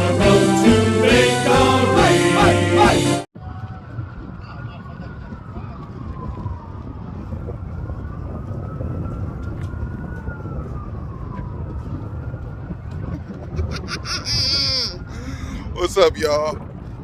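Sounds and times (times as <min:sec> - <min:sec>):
siren wailing: 0:00.0 - 0:15.3
low rumble of traffic or wind: 0:03.4 - 0:17.0.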